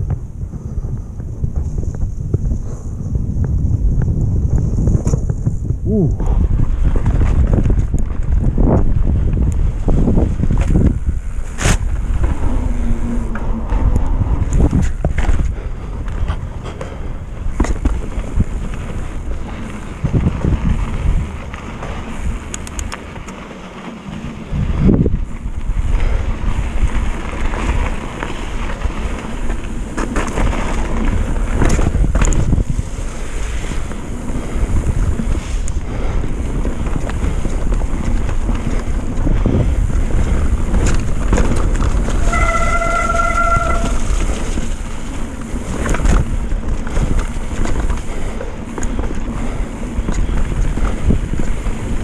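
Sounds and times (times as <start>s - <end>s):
bike knocks and rattles: 0.0s - 52.0s
wind buffeting microphone: 0.0s - 52.0s.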